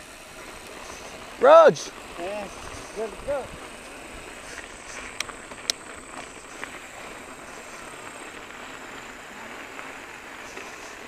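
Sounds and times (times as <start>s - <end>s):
bike tyres rolling on gravel: 0.0s - 11.0s.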